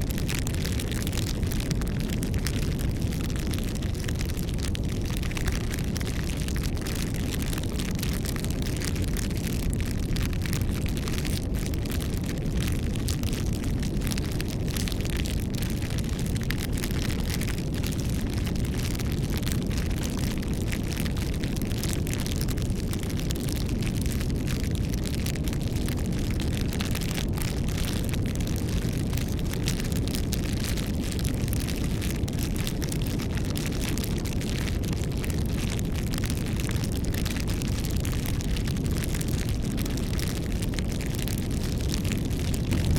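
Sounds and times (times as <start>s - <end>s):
roar of flames: 0.0s - 42.9s
wood crackles and pops: 0.0s - 42.9s.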